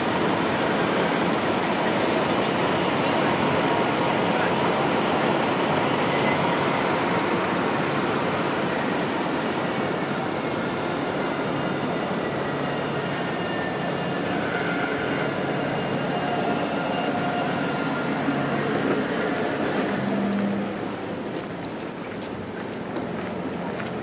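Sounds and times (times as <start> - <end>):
tram rolling rumble: 0.0 - 24.0
tram wheel squeal: 0.1 - 21.4.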